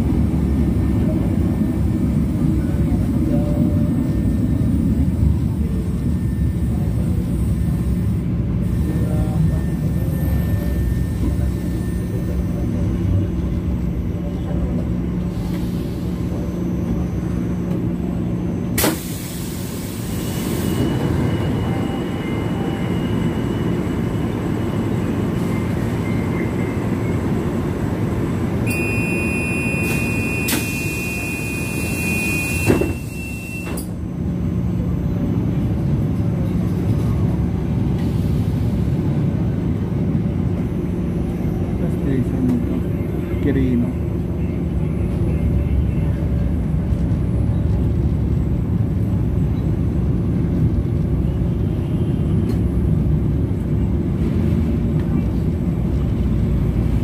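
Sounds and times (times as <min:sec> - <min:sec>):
train wheels and motors rumbling: 0:00.0 - 0:57.0.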